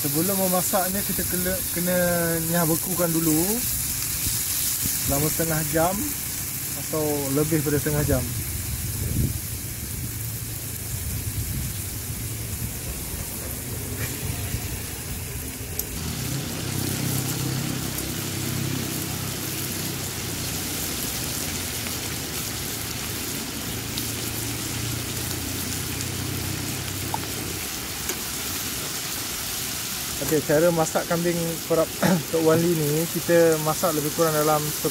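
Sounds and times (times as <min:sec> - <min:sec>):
meat sizzling in hot oil: 0:00.0 - 0:34.9.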